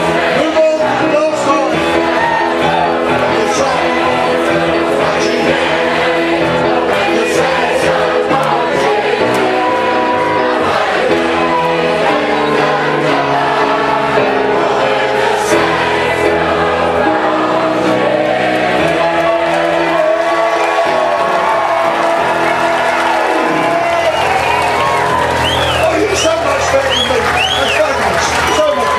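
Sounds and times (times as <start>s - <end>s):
crowd singing gospel: 0.0s - 28.9s.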